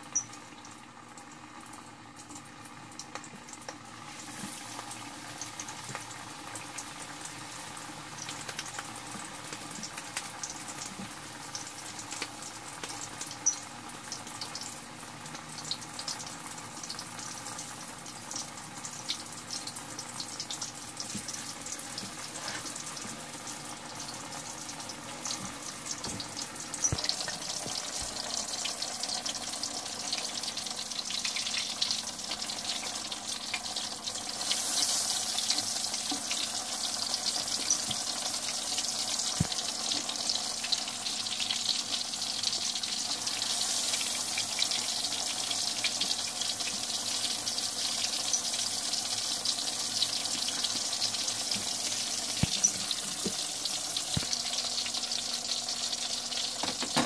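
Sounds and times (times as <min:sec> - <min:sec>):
meat sizzling in hot oil: 0:00.0 - 0:57.0.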